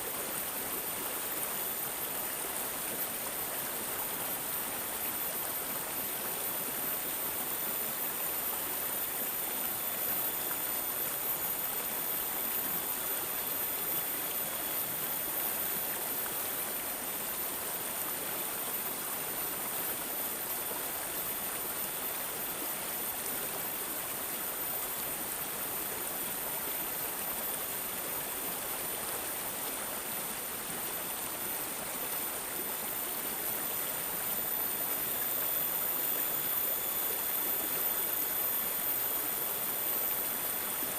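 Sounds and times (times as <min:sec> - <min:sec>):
water gurgling in a stream: 0:00.0 - 0:40.9.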